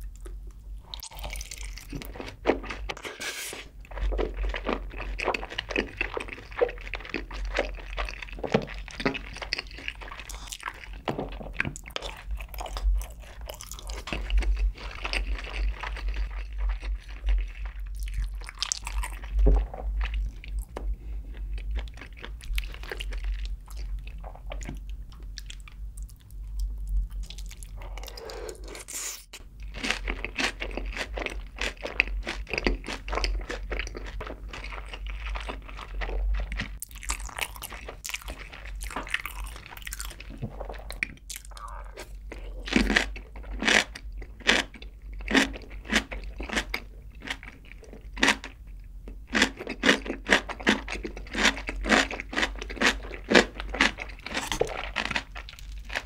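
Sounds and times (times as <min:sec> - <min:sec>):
chewing crunchy fried chicken: 0:00.0 - 0:56.0.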